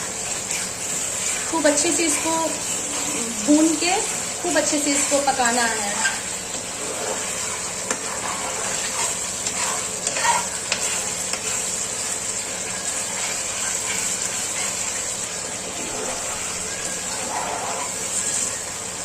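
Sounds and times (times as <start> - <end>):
paste sizzling in a pan: 0.0 - 19.0.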